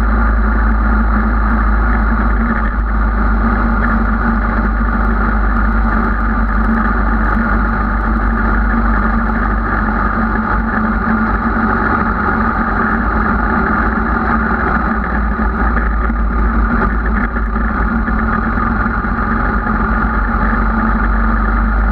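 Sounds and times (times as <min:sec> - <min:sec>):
motorcycle engine running steadily: 0:00.0 - 0:21.9
wind rumble on microphone: 0:00.0 - 0:21.9.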